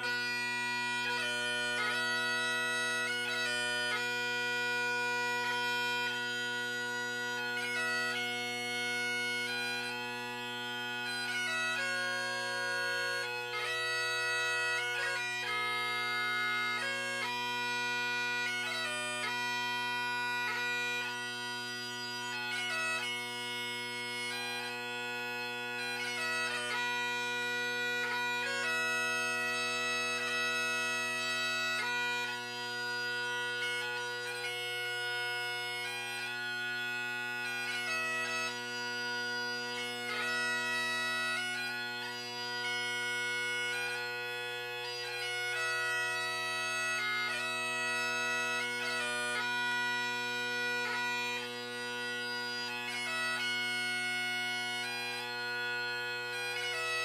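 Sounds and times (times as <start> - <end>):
bagpipe drones: 0.0 - 57.0
bagpipe melody: 0.0 - 57.0.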